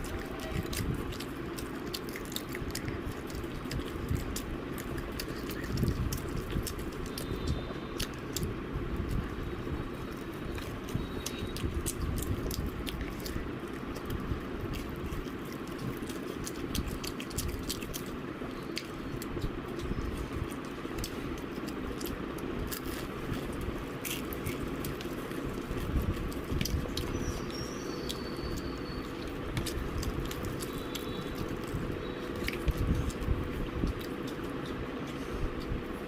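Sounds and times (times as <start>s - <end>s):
fried chicken crunching: 0.0s - 36.0s
person chewing: 0.0s - 36.0s.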